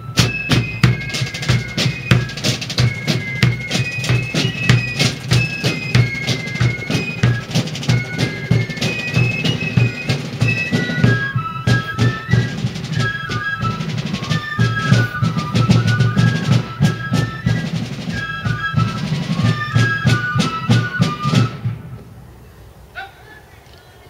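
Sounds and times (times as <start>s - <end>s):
shrill fife melody: 0.0s - 21.7s
rapid drum strokes: 0.0s - 21.9s.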